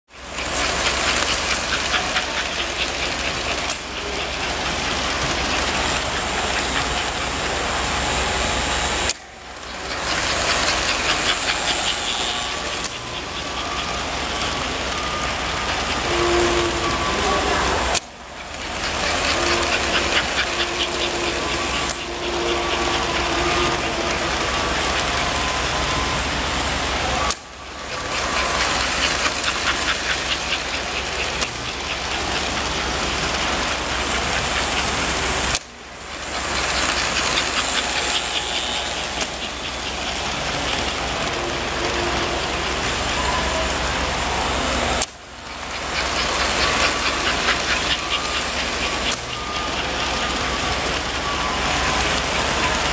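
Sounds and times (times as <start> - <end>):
model train motor hum: 0.1 - 52.9
wheel clatter on track: 0.1 - 52.9.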